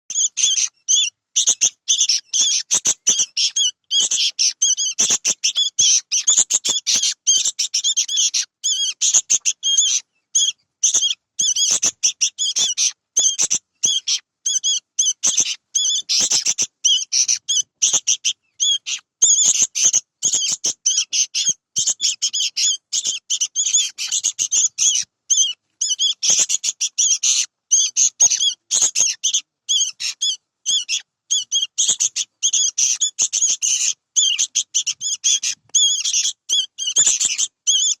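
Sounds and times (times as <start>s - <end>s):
bird chirping rapidly: 0.1s - 38.0s.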